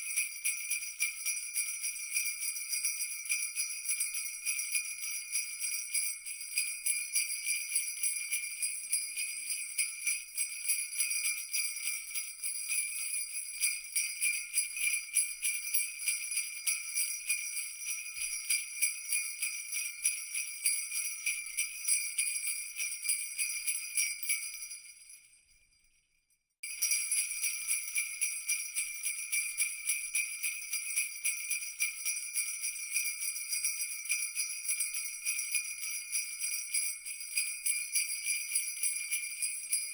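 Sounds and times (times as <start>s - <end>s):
small bells jingling: 0.0s - 26.0s, 26.6s - 39.9s.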